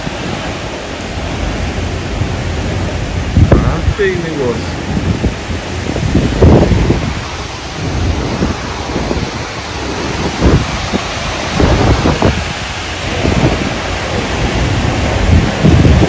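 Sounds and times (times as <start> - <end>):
heavy rain hissing: 0.0 - 16.0
wind buffeting microphone: 0.0 - 16.0.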